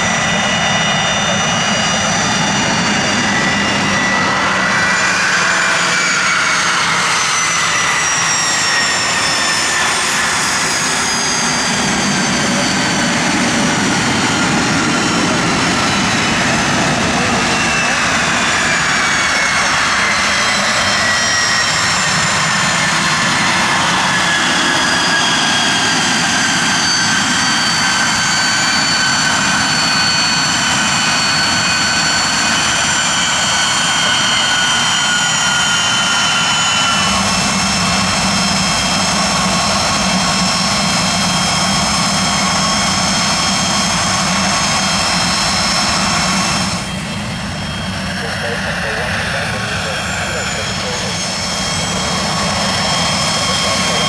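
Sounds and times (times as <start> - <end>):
jet engines taxiing: 0.0 - 54.0.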